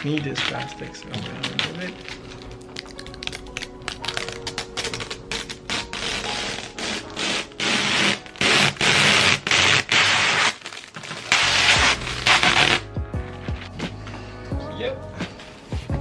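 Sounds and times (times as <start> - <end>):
plastic wrapping crinkling: 0.0 - 12.8.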